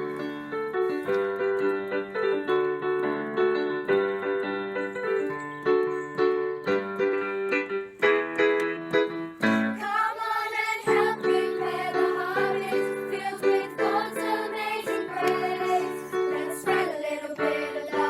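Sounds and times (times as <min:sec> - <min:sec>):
piano playing chords: 0:00.0 - 0:18.0.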